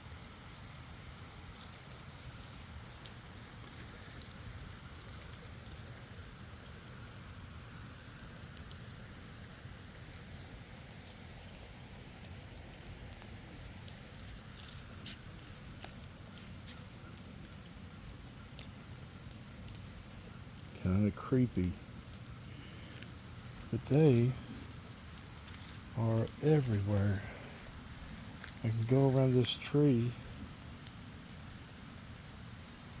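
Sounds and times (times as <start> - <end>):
faint raindrop ticks: 0.0 - 33.0
light rain hiss: 0.0 - 33.0.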